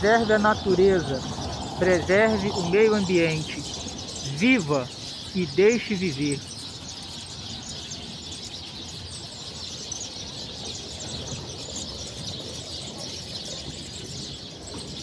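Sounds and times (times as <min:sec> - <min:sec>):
flock of songbirds chirping: 0:00.0 - 0:15.0.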